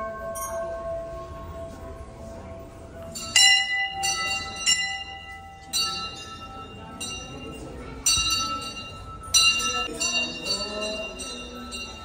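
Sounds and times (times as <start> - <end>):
temple bells ringing: 0.0 - 12.0.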